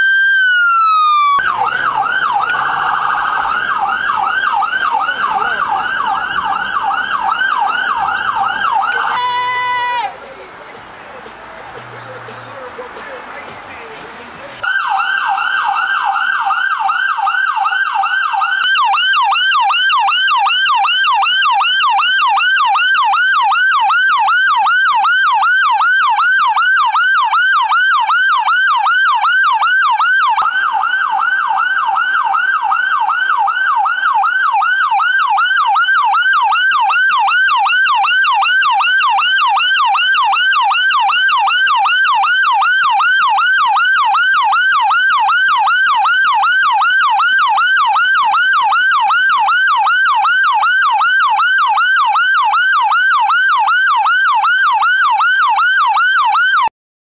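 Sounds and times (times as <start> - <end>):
vehicle siren yelping: 0.0 - 10.2, 14.0 - 56.7.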